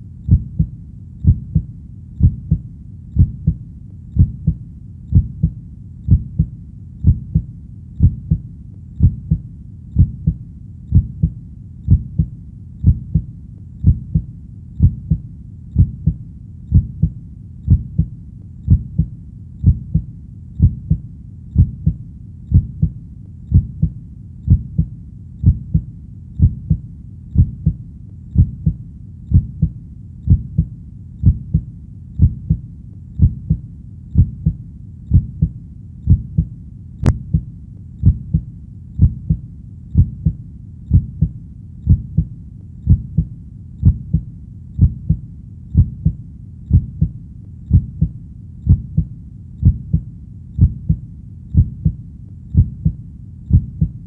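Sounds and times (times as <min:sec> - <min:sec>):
heartbeat thumps: 0:00.3 - 0:54.0.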